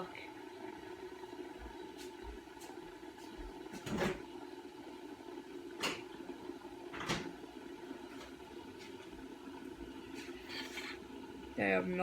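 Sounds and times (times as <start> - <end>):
electric kettle humming: 0.0 - 12.0.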